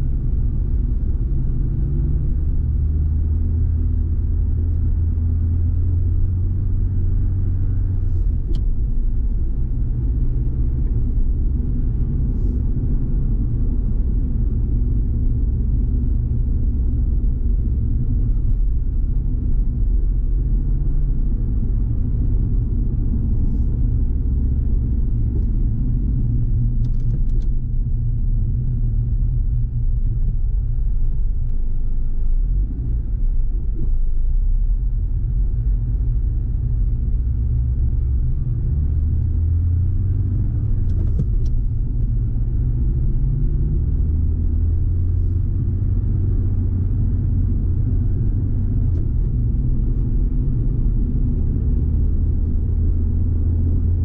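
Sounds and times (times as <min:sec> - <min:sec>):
car engine and tyre rumble: 0:00.0 - 0:54.0
low hum: 0:00.0 - 0:54.0.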